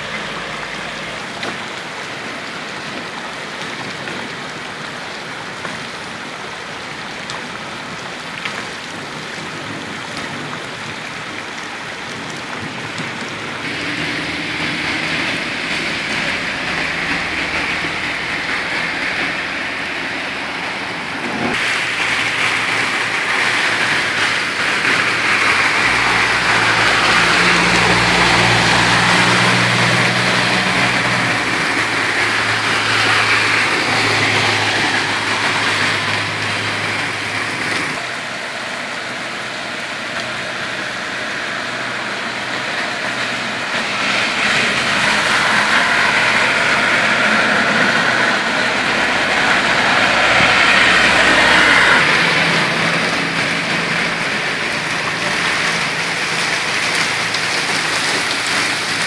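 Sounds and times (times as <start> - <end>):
heavy rain on flooded street: 0.0 - 59.0
tyres swishing through water: 0.0 - 59.0
engine humming: 9.4 - 59.0.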